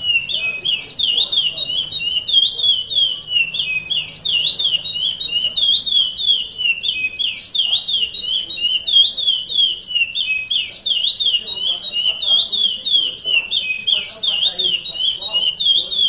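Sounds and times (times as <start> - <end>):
finch singing whistled notes: 0.0 - 16.0.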